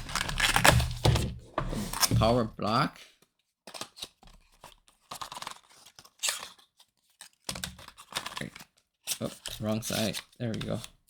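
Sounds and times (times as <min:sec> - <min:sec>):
packaging rustling and tearing: 0:00.0 - 0:02.5, 0:03.7 - 0:11.0.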